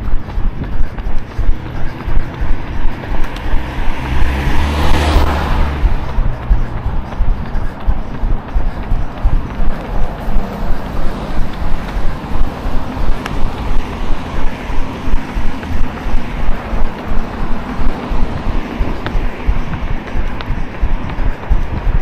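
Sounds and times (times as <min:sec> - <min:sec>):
running footsteps: 0:00.0 - 0:22.0
wind buffeting microphone: 0:00.0 - 0:22.0.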